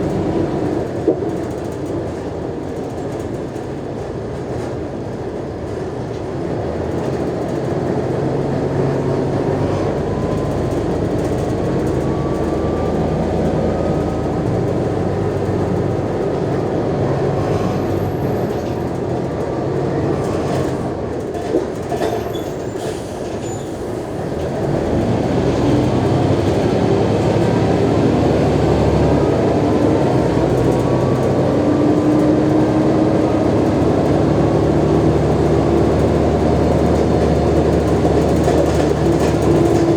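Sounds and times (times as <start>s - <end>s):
bus diesel engine whining: 0.0s - 39.9s.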